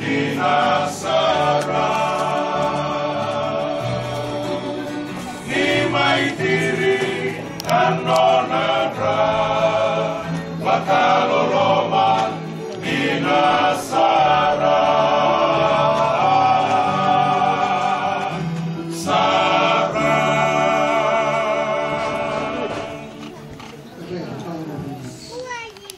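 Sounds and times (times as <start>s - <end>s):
choir singing a hymn: 0.0s - 24.1s.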